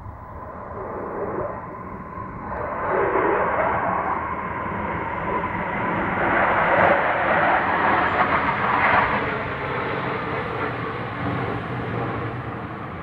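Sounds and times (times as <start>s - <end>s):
jet fighters rumbling overhead: 0.0s - 13.0s.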